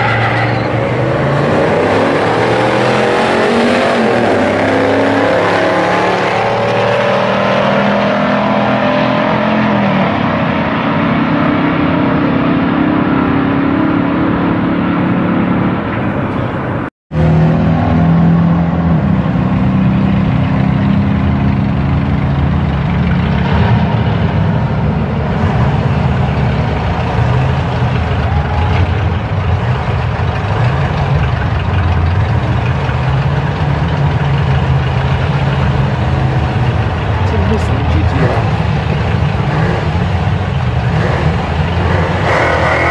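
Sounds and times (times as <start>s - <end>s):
car engine running loud: 0.0s - 42.9s.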